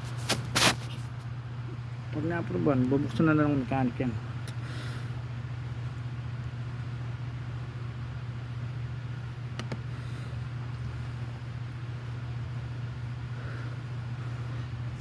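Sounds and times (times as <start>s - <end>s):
motor droning: 1.4s - 15.0s.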